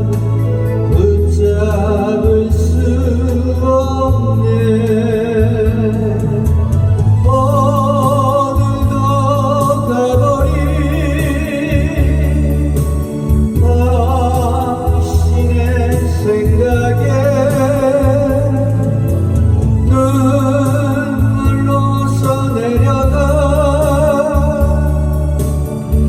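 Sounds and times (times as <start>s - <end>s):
backing music with heavy bass: 0.0s - 26.0s
person singing with vibrato: 0.0s - 26.0s.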